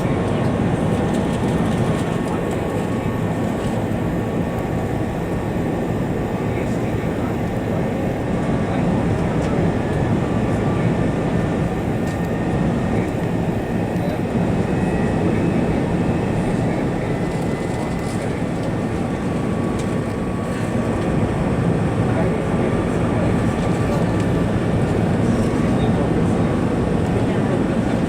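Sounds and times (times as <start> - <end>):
aircraft cabin engine rumble: 0.0 - 28.0
faint steady whines: 0.0 - 28.0.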